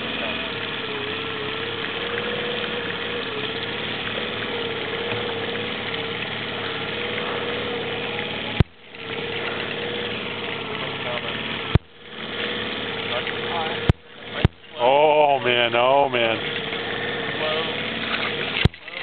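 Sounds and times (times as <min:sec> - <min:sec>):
boat motor idling: 0:00.0 - 0:19.0.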